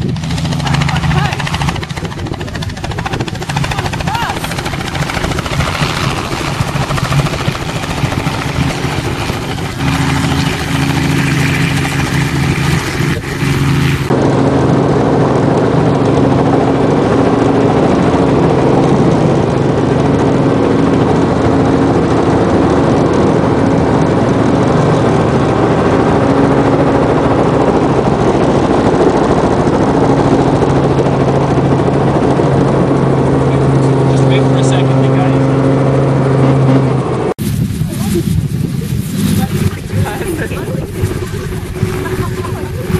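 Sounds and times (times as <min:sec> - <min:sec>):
helicopter rotors and engine: 0:00.0 - 0:42.9.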